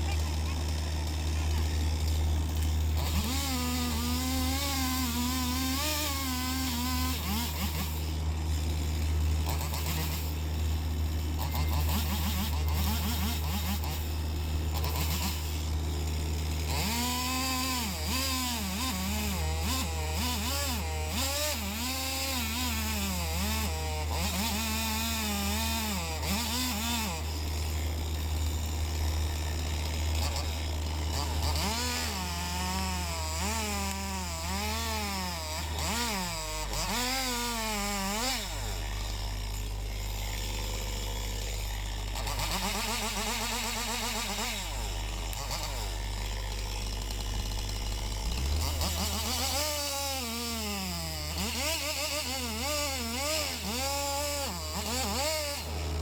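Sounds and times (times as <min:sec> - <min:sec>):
chainsaw cutting: 0:00.0 - 0:56.0.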